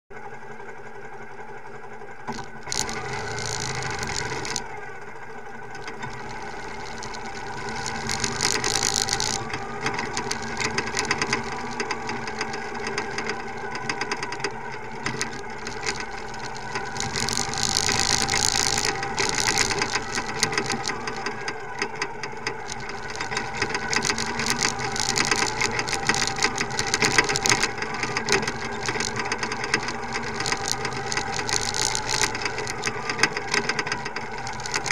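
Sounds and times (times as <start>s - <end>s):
motorcycle engine running: 0.2s - 34.9s
constant rattling: 1.6s - 34.9s.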